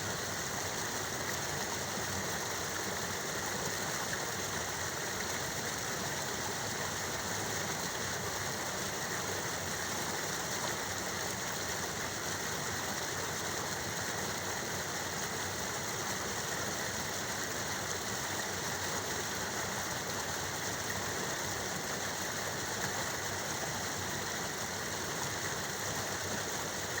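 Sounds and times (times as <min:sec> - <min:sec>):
water rushing: 0:00.2 - 0:27.0.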